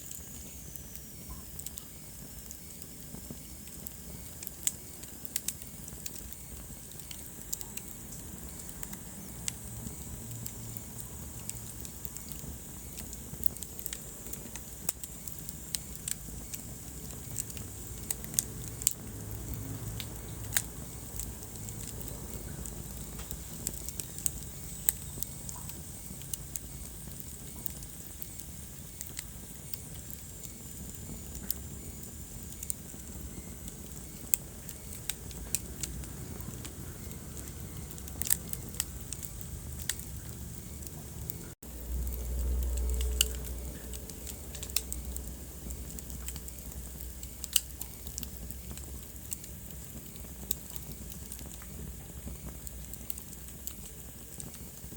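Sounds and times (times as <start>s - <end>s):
flames rumbling: 0.0s - 54.9s
logs crackling and popping: 0.1s - 54.9s.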